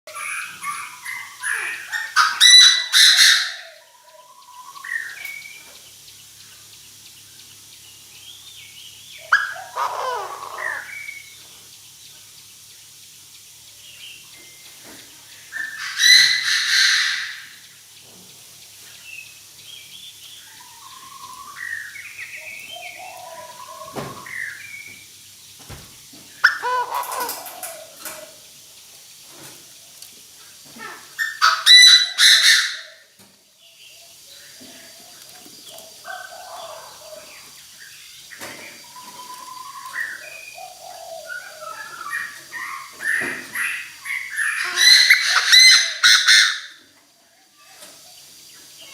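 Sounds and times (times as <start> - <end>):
francolin calling: 0.1 - 48.9.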